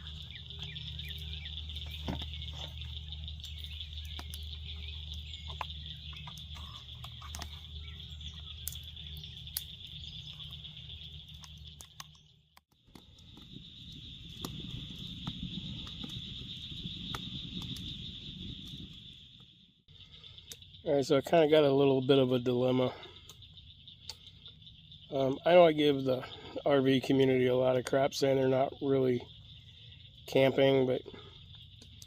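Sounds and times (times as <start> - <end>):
insects trilling: 0.0 - 32.0
low steady hum: 0.0 - 32.0.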